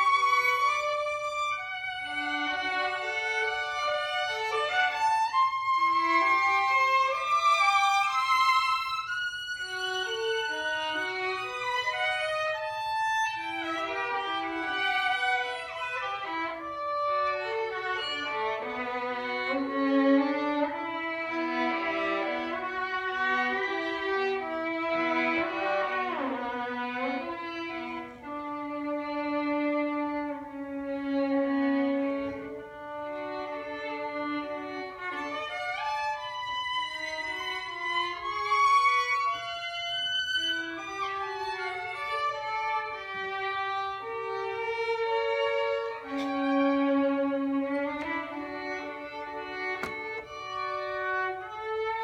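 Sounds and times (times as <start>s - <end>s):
bowed string duet: 0.0s - 52.0s.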